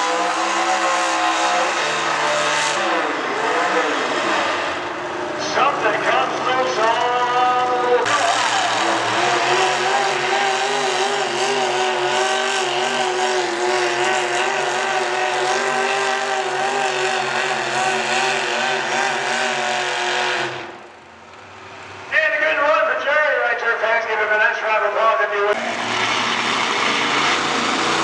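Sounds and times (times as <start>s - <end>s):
tractor engine at high revs: 0.0s - 7.2s, 7.8s - 21.4s, 25.5s - 28.0s.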